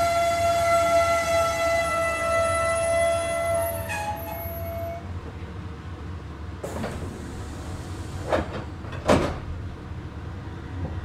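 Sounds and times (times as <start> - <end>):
train car low hum: 0.0 - 11.0.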